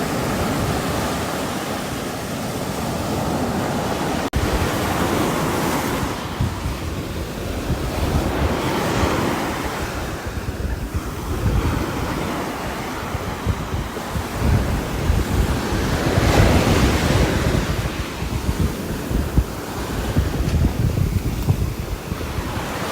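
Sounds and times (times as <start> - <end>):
gusting wind: 0.0 - 22.9
wind buffeting microphone: 0.0 - 22.9.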